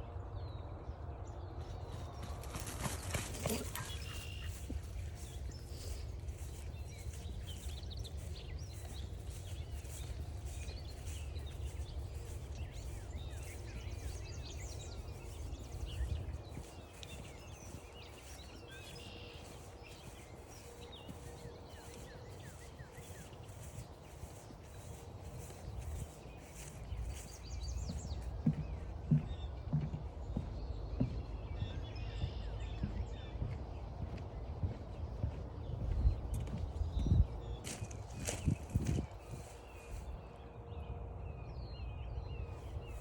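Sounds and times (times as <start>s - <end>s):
footsteps on a trail: 1.7s - 40.3s
birds chirping and trilling: 1.7s - 43.0s.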